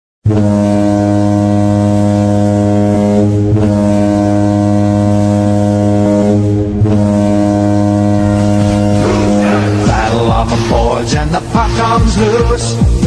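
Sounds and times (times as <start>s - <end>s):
goal horn blast: 0.2s - 11.1s.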